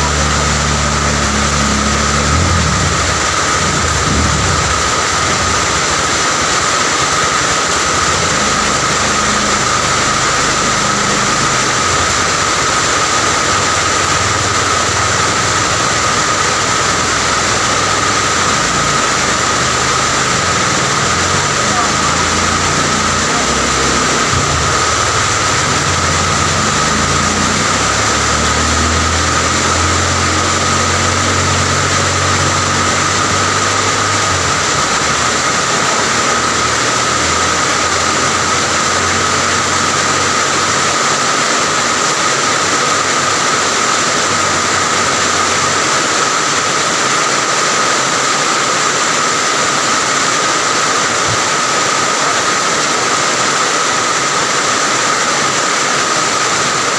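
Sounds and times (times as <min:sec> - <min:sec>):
steady rain falling: 0:00.0 - 0:56.9
vehicle engine running low: 0:00.0 - 0:56.9.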